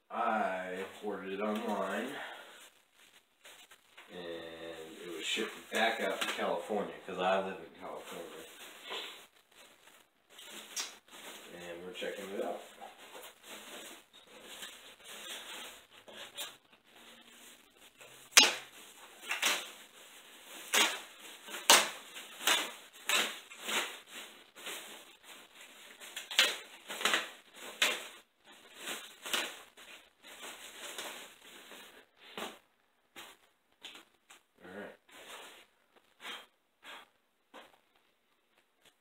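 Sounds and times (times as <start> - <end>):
plastic sheeting crinkling: 0.4 - 39.0.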